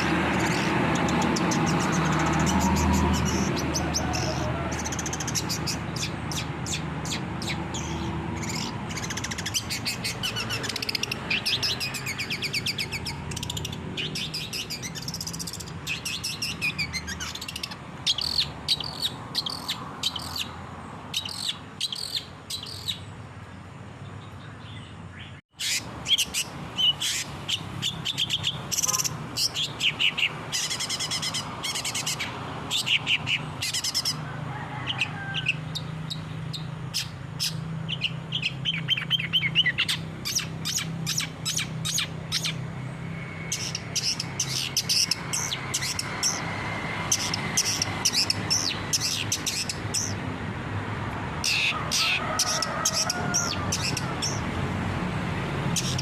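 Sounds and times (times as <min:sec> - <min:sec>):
bird singing chirps and trills: 0:00.0 - 0:50.3, 0:51.4 - 0:54.6, 0:55.6 - 0:56.0.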